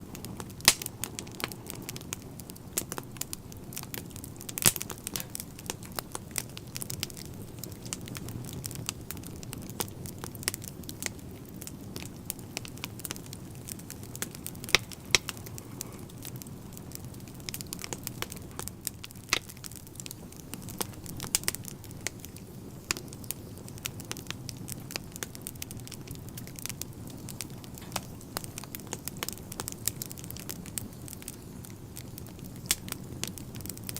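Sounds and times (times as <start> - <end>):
fire crackling and popping in stove: 0.0 - 33.9.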